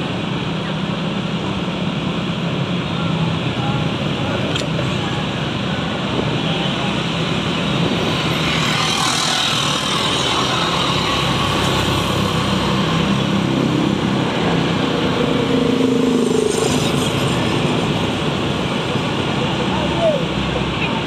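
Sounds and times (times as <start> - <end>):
passing scooters and cars: 0.0 - 21.0
wind and road noise: 0.0 - 21.0.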